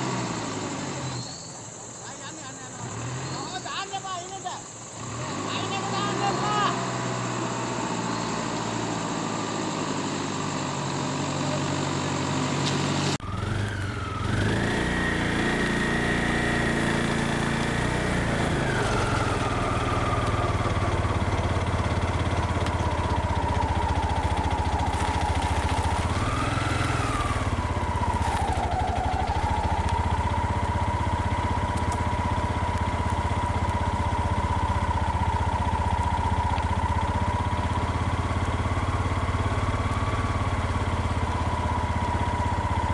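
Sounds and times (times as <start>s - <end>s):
vehicle engine idling with whine: 0.0s - 42.9s.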